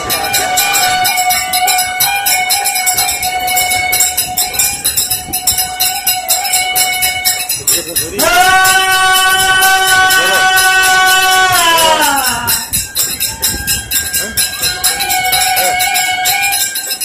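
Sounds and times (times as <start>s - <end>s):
rapid jingling bells: 0.0s - 17.0s
steady held melody note: 0.0s - 17.0s.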